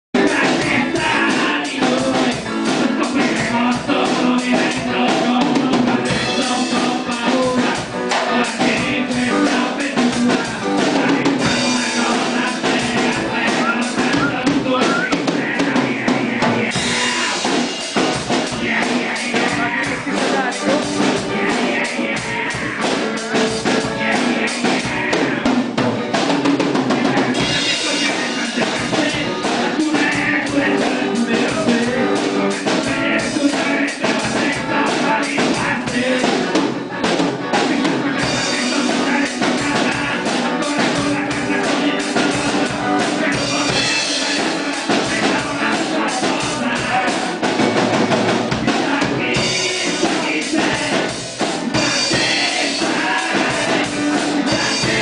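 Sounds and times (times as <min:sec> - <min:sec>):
drum kit beat: 0:00.2 - 0:55.0
electric guitar: 0:00.2 - 0:55.0.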